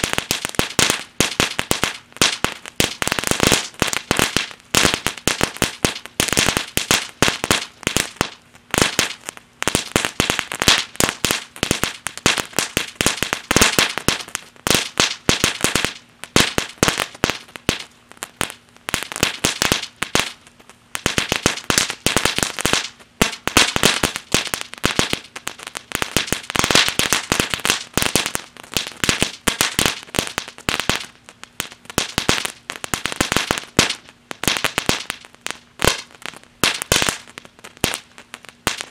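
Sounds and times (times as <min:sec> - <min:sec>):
firework fountain crackling: 0:00.0 - 0:38.9.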